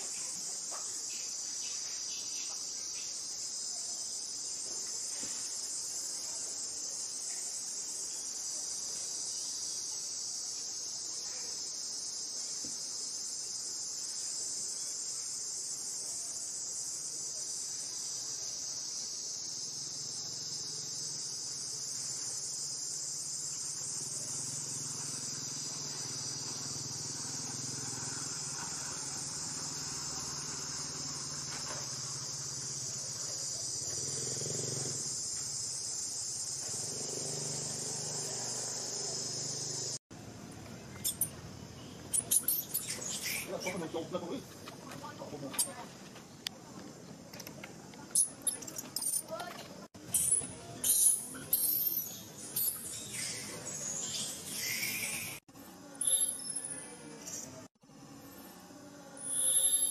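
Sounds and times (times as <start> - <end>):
insect chorus drone: 0.0 - 49.4, 50.0 - 59.9.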